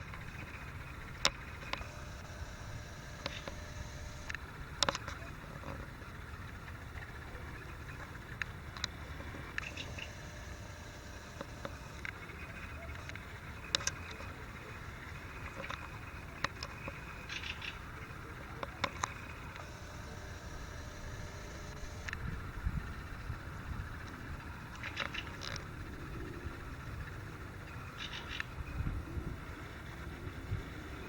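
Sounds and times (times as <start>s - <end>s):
birds chirping: 0.0s - 28.8s
high buzzy bird trill: 0.0s - 28.8s
low steady rumble: 0.0s - 31.0s.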